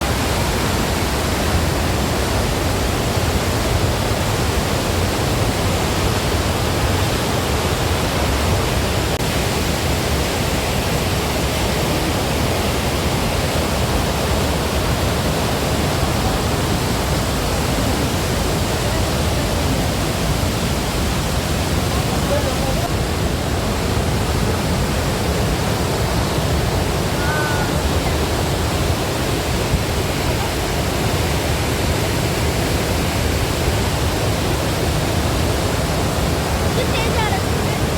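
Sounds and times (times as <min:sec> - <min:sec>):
waterfall crashing: 0:00.0 - 0:37.9.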